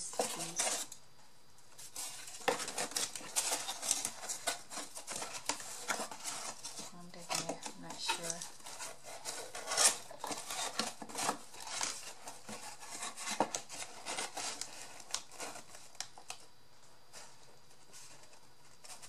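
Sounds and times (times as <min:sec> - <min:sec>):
cardboard and paper rustling: 0:00.0 - 0:01.0, 0:01.6 - 0:19.0.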